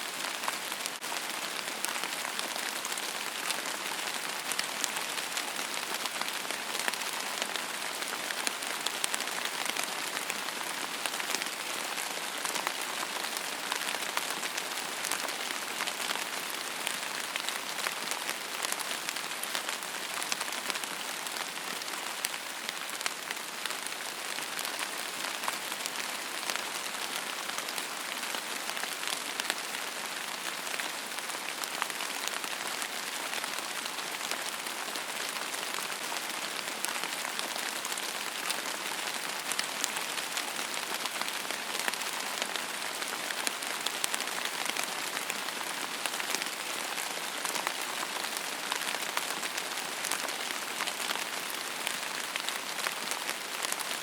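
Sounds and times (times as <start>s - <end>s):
steady rain hiss: 0.0s - 54.0s
rain drops ticking: 0.1s - 54.0s.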